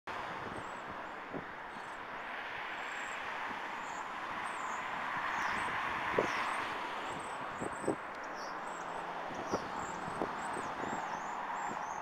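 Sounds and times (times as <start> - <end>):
road traffic tyre noise: 0.1 - 12.0.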